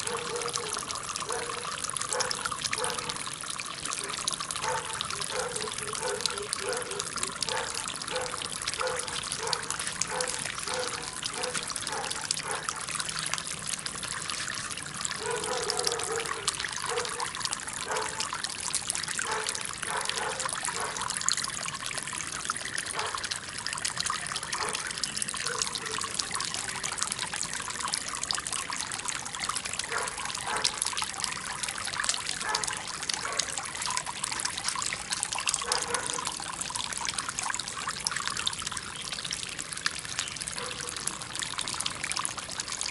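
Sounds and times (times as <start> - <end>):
fountain water trickling: 0.0 - 42.9.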